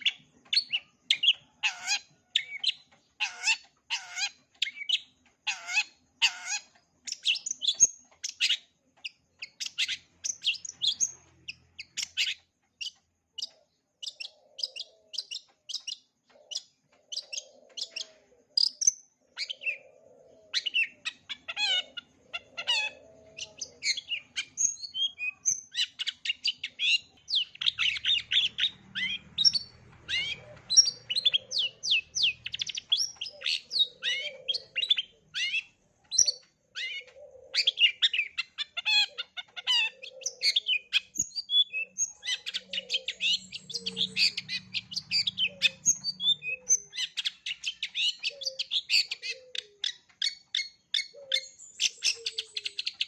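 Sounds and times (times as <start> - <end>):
bird singing chirps and trills: 0.0 - 53.0.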